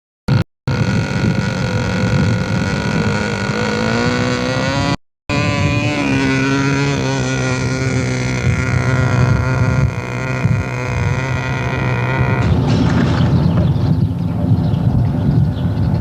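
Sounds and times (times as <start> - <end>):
diesel locomotive engine revving: 0.3 - 15.0.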